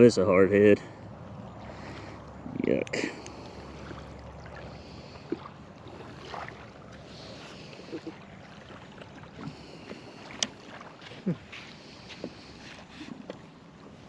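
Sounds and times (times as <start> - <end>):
water noise: 0.0 - 14.0
wind: 0.0 - 14.0.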